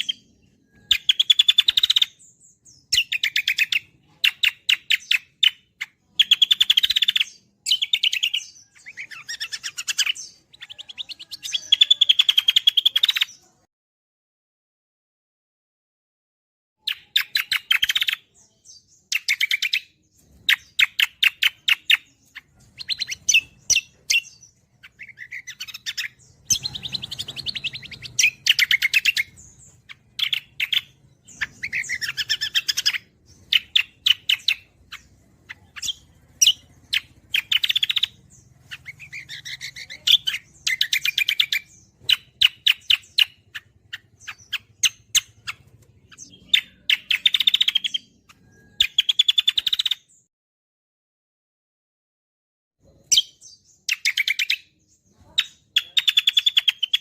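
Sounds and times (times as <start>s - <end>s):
bird singing chattering phrases: 0.0s - 13.7s, 16.8s - 50.3s, 52.8s - 57.0s.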